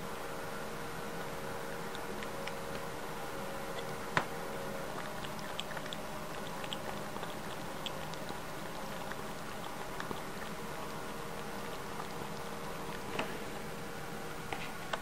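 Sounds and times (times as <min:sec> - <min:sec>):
background hum: 0:00.0 - 0:15.0
cat lapping water: 0:01.1 - 0:14.1.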